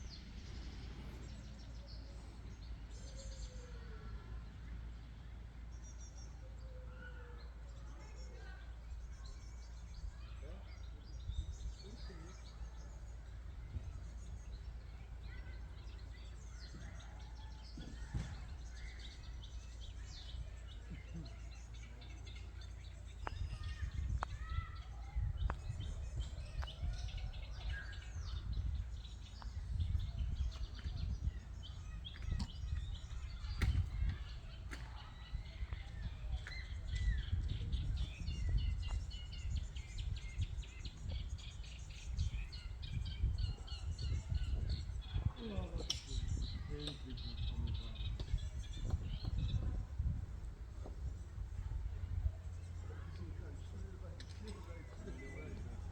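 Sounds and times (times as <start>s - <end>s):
small birds chirping: 0.0s - 55.9s
wind rumble on microphone: 8.8s - 55.9s.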